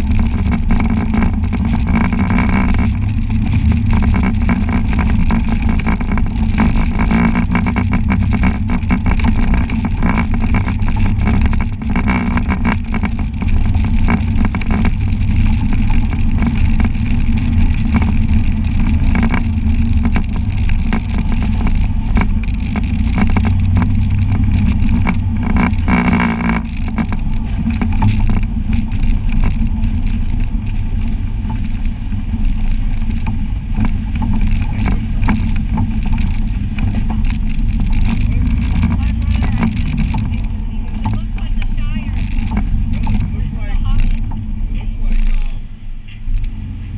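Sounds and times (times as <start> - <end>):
body and suspension rattling: 0.0 - 46.9
vehicle engine running: 0.0 - 46.9.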